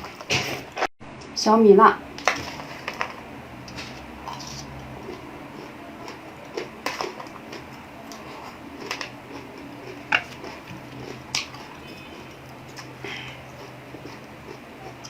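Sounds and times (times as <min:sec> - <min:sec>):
chewing crunches: 0:02.2 - 0:15.0.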